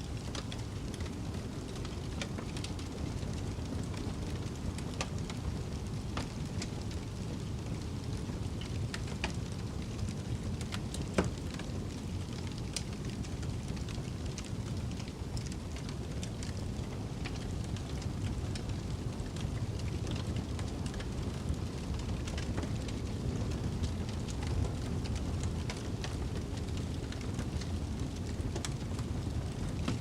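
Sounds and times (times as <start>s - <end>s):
wood fire crackling: 0.0s - 30.0s
snowstorm wind rumble: 0.1s - 30.0s.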